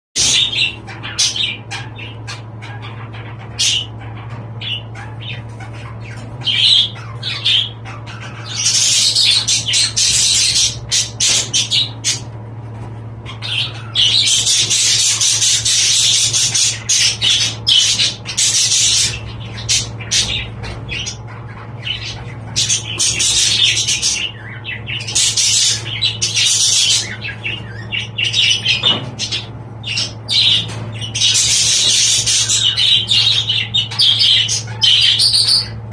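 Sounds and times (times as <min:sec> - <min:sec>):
budgerigars chattering and squawking: 0:00.2 - 0:35.9
steady low hum: 0:00.2 - 0:35.9.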